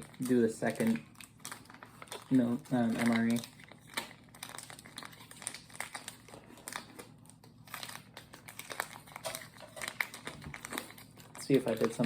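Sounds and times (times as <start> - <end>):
food packaging crinkling: 0.0 - 12.0.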